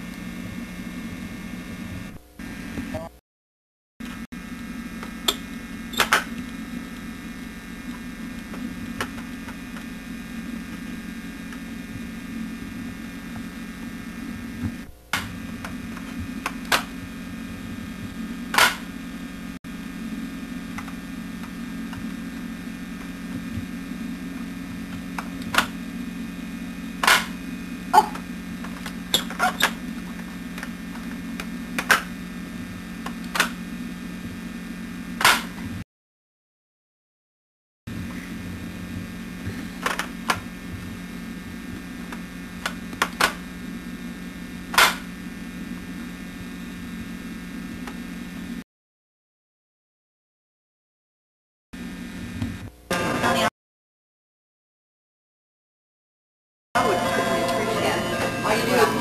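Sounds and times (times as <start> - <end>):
steady low hum: 0.0 - 3.2, 4.0 - 35.8, 37.9 - 48.6, 51.8 - 53.5, 56.8 - 59.0.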